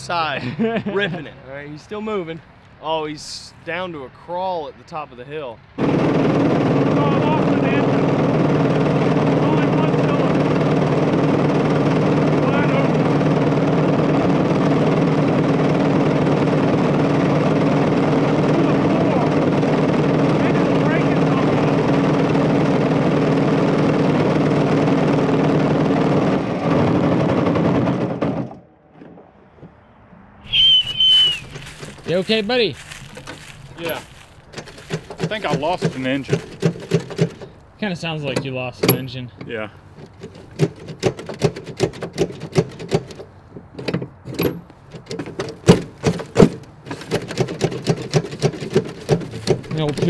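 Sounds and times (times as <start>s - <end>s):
go kart engines running: 5.8s - 28.6s, 30.5s - 37.6s, 39.8s - 50.0s.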